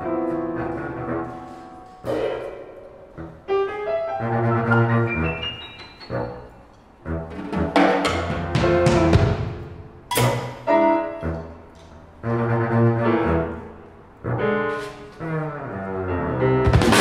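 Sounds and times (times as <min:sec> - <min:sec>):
piano chords ringing: 0:00.0 - 0:07.2, 0:08.2 - 0:17.0
low double bass notes: 0:00.0 - 0:17.0.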